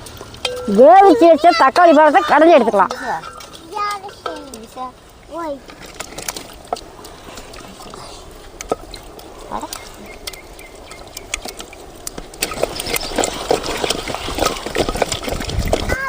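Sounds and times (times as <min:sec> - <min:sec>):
tomatoes squelching in water: 0:00.0 - 0:16.0.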